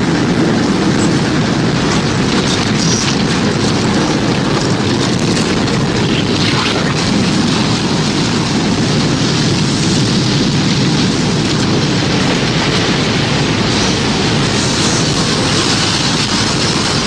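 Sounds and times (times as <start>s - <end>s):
low rumble of wind: 0.0s - 17.0s
rain-like hiss: 0.0s - 17.0s.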